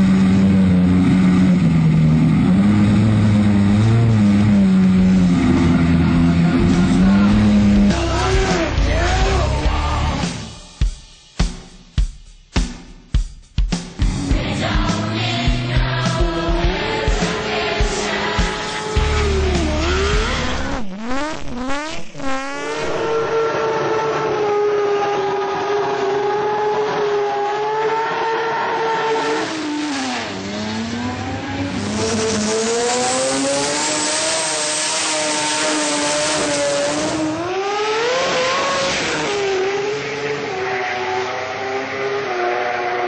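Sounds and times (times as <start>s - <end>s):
boat engine revving: 0.0s - 10.4s, 16.7s - 43.0s
drag car engine at high revs: 0.0s - 10.5s, 14.0s - 43.0s.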